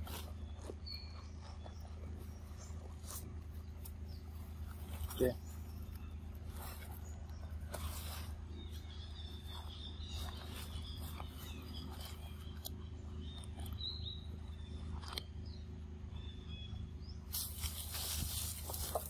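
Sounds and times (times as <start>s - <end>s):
rustles and clicks: 0.0s - 13.8s, 17.3s - 19.0s
steady low hum: 0.0s - 19.0s.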